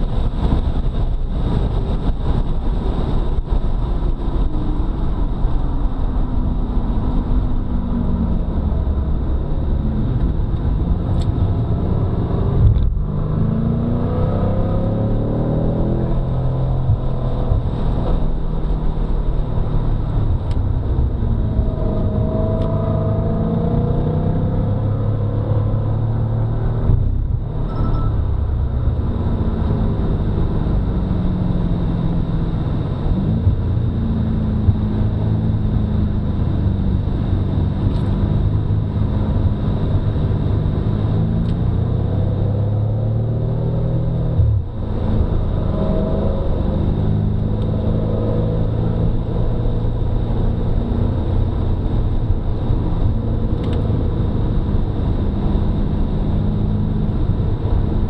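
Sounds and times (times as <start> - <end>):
car engine revving through gears: 9.7 - 58.0.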